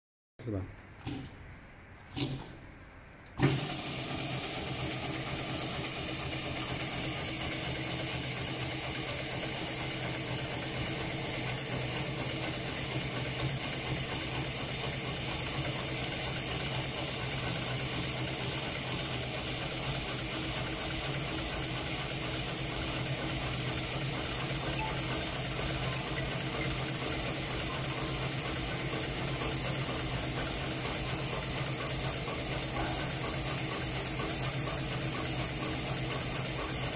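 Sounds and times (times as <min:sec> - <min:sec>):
sewing machine hiss: 0:03.4 - 0:36.9.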